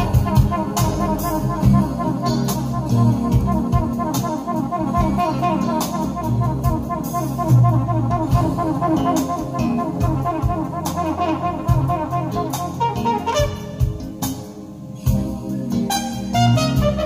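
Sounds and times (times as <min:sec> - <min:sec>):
jazz music with brass: 0:00.0 - 0:17.0.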